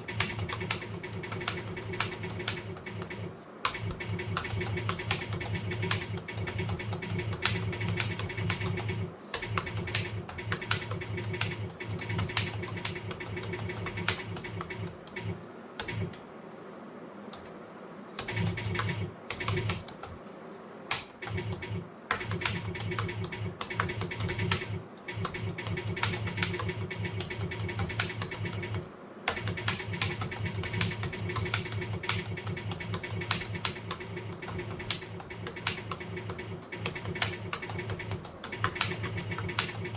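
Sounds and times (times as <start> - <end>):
fast typing on keyboard: 0.0 - 16.2, 18.2 - 20.2, 20.9 - 39.9.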